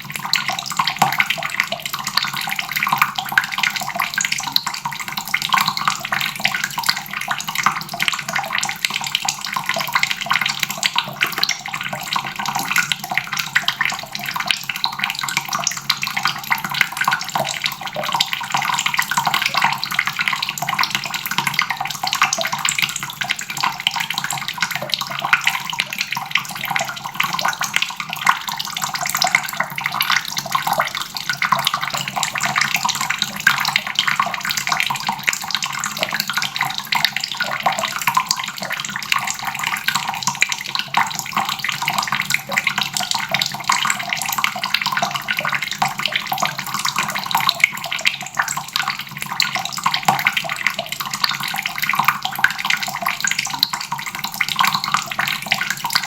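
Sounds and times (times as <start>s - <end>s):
faucet water splashing into basin: 0.0s - 56.0s.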